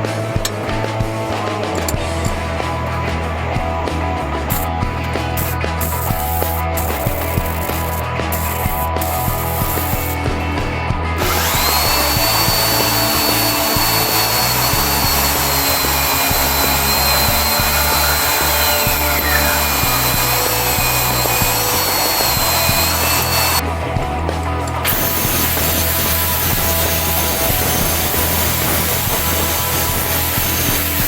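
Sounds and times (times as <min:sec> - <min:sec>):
background music with steady beat: 0:00.0 - 0:31.0
power tool whining: 0:00.0 - 0:31.0.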